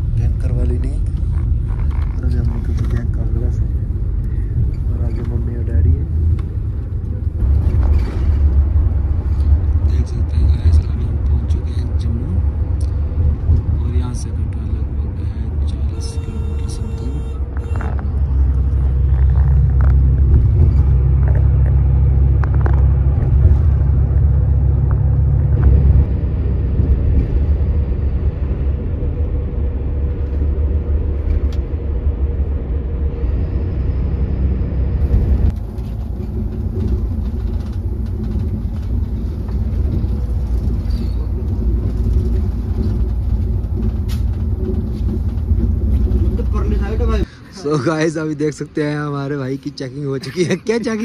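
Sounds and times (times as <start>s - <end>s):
coach engine and road noise: 0.0s - 51.0s.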